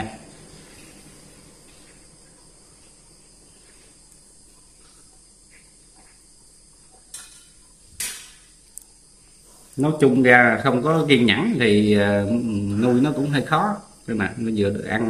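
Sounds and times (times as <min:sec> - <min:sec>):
faint insects chirring: 0:00.0 - 0:15.0.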